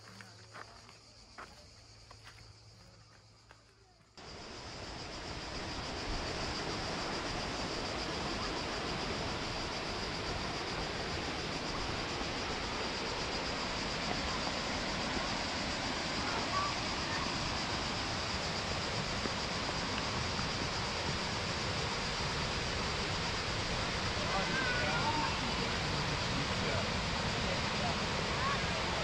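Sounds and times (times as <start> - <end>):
waterfall roaring: 4.3 - 29.0.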